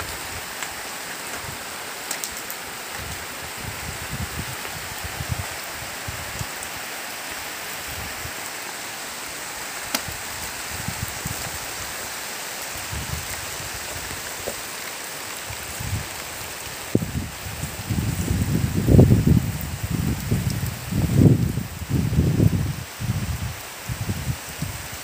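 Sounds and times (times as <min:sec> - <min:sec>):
heavy rain on leaves: 0:00.0 - 0:25.0.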